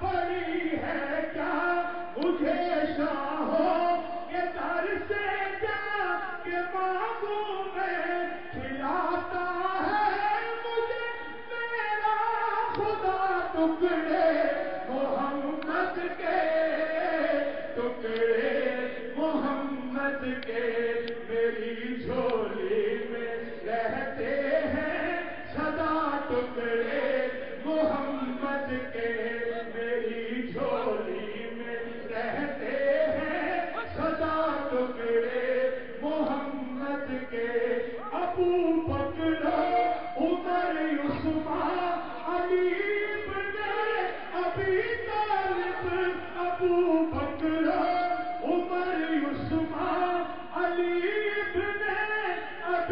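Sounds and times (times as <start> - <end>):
man chanting: 0.0 - 52.9.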